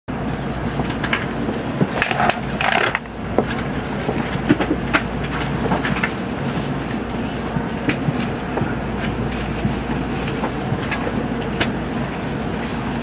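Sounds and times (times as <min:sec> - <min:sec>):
low hum inside train carriage: 0:00.1 - 0:13.0.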